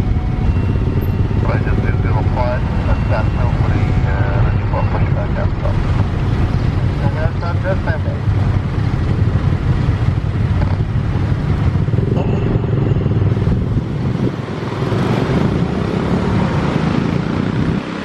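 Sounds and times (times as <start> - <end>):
jet engines rumbling at takeoff: 0.0 - 18.0.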